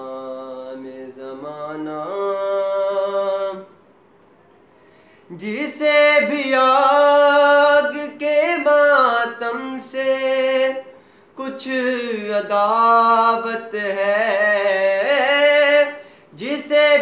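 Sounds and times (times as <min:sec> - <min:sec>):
man singing unaccompanied: 0:00.0 - 0:03.8, 0:05.3 - 0:17.0.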